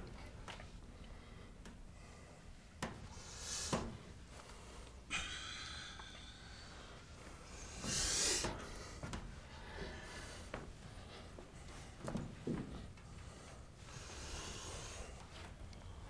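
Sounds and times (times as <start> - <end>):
person breathing heavily: 0.9 - 16.0.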